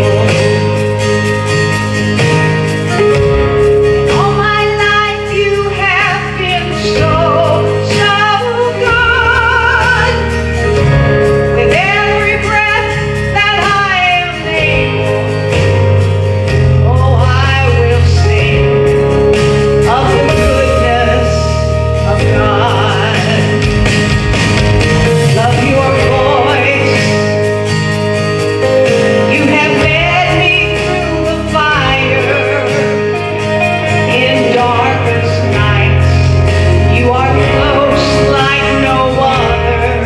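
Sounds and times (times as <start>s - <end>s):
person singing with vibrato: 0.0s - 24.2s, 24.8s - 40.0s
instrumental accompaniment: 0.0s - 40.0s.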